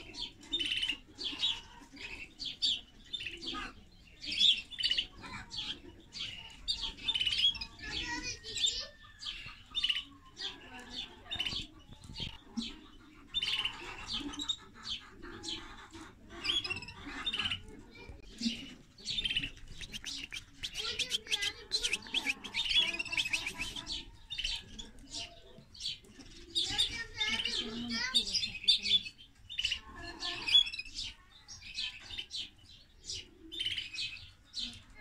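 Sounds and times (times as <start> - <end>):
canaries chirping and twittering: 0.0 - 35.0.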